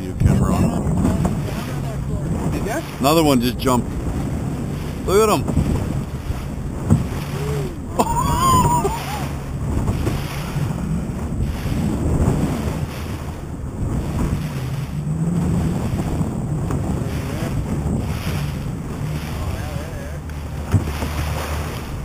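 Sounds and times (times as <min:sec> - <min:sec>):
sea washing around boat: 0:00.0 - 0:22.0
wind buffeting microphone: 0:00.0 - 0:22.0.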